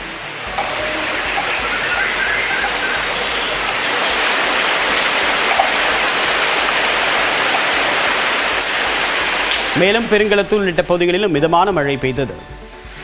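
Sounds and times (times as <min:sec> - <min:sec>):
rain on leaves: 0:00.0 - 0:10.8.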